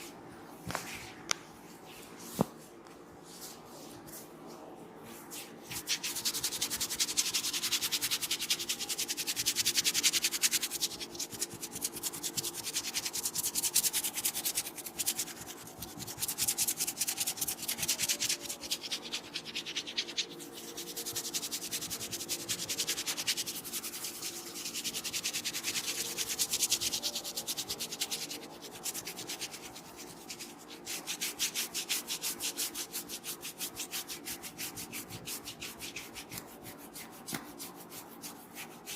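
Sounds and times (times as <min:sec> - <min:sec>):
hands rubbing hair: 0:05.1 - 0:38.9.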